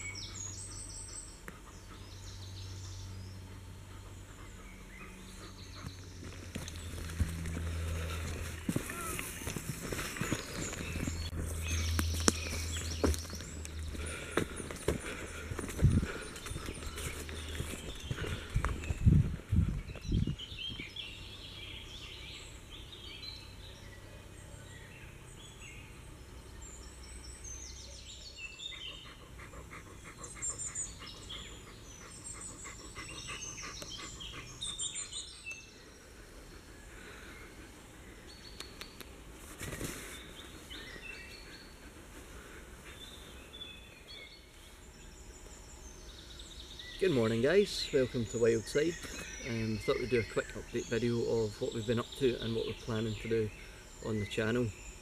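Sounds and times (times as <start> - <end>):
birds singing and chirping: 0.0 - 55.0
rustle: 0.0 - 55.0.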